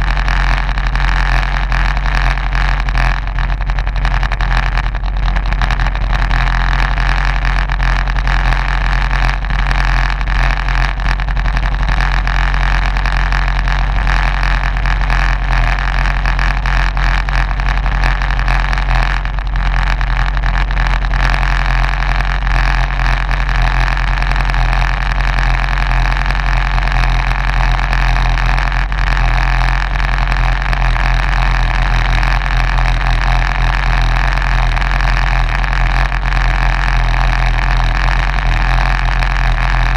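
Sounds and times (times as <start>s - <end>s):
kart engine idling: 0.0s - 39.9s.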